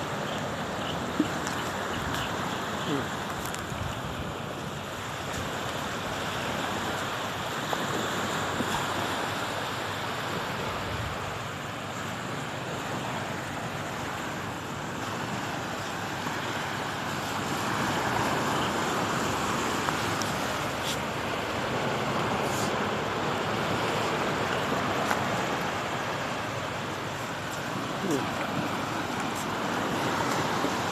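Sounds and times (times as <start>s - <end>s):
sea waves washing in: 0.0s - 30.9s.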